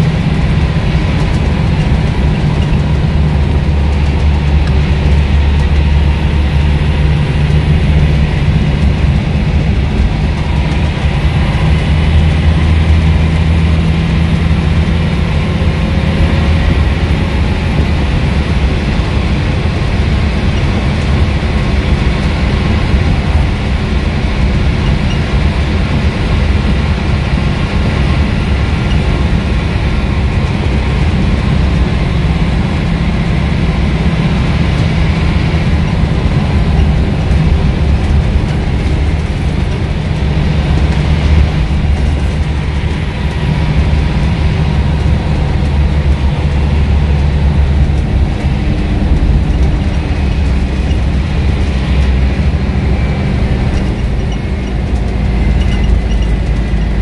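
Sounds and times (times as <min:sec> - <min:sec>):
bus diesel engine drone: 0:00.0 - 0:57.0
road and tyre noise: 0:00.0 - 0:57.0.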